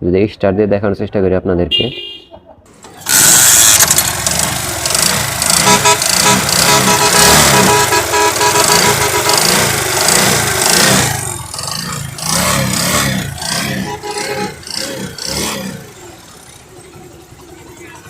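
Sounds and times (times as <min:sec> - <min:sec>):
motorcycle engine revving: 0:02.7 - 0:18.0.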